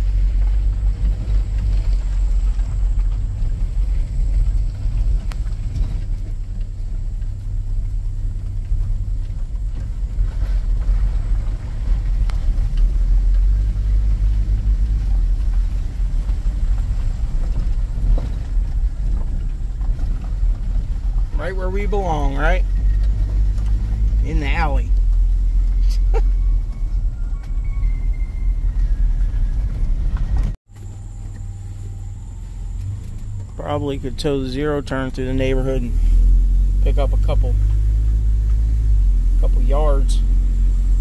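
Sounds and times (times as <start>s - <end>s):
vehicle rumbling over rough ground: 0.0s - 41.0s.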